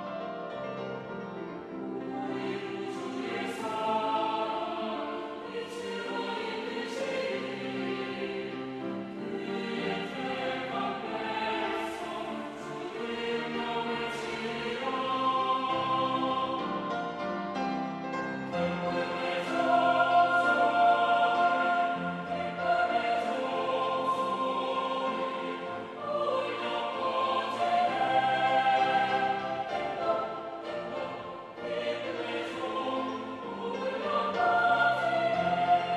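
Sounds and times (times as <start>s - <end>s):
mixed choir singing: 0.0s - 35.9s.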